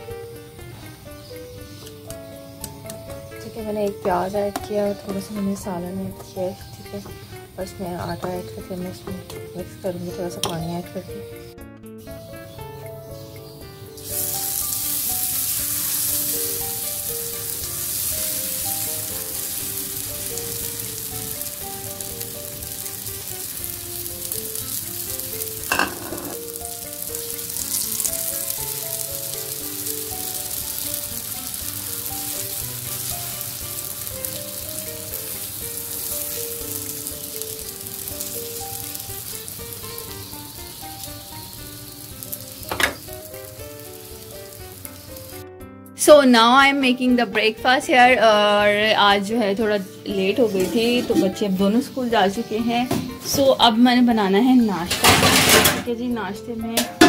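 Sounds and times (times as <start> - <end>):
batter sizzling on hot griddle: 0.0 - 11.1, 12.0 - 45.4, 47.8 - 57.0
background music: 0.0 - 57.0.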